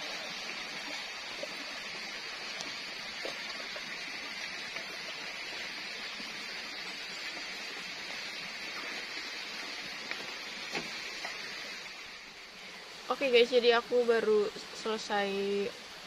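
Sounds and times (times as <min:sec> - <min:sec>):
continuous forest hiss: 0:00.0 - 0:16.0.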